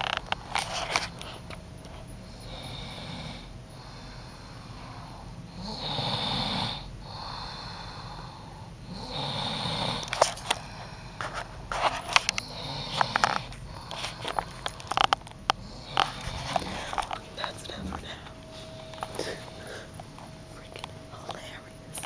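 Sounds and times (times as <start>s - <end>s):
woman snoring: 2.1s - 11.2s, 12.1s - 22.0s.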